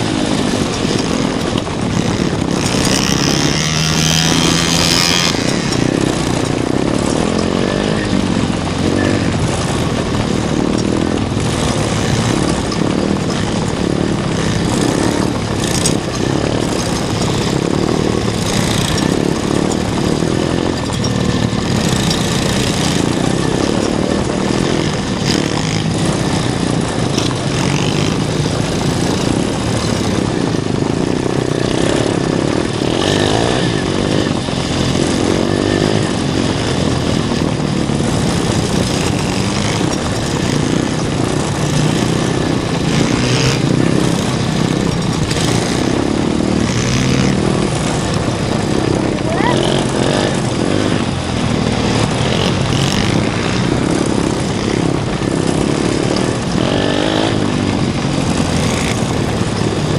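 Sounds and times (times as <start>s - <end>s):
small off-road engines revving: 0.0s - 59.9s.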